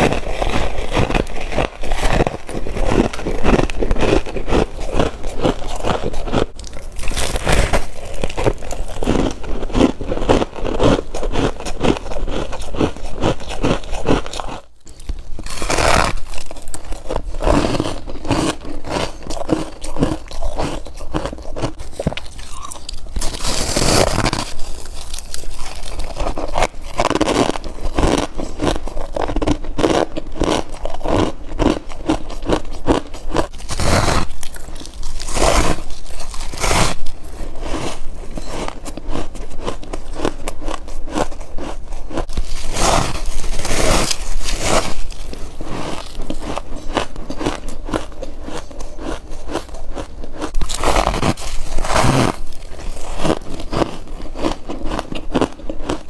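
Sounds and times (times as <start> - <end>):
frost being chewed crunching: 0.0 - 56.0.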